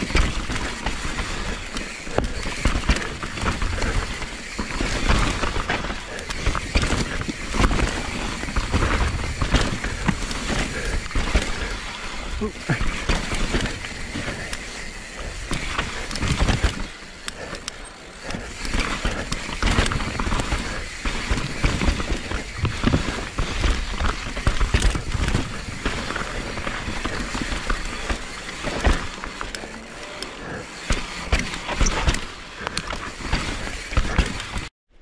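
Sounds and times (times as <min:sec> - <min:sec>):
bike knocks and rattles: 0:00.0 - 0:34.7
bike tyre noise on dirt: 0:00.0 - 0:35.0.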